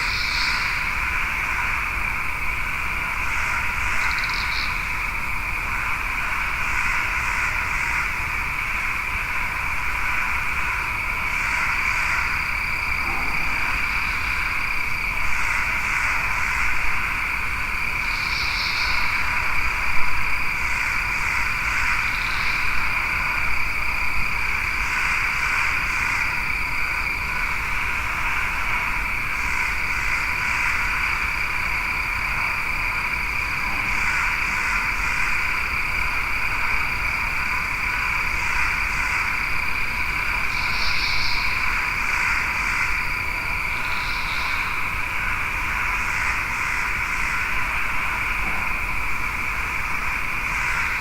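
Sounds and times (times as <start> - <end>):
frogs and insects trilling: 0.0 - 51.0.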